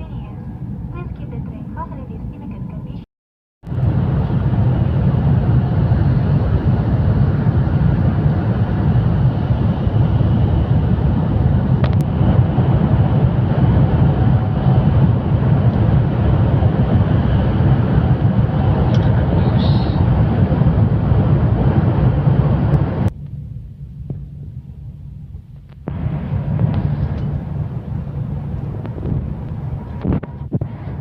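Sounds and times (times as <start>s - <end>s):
high-speed train rumbling: 0.0s - 3.0s, 3.6s - 31.0s.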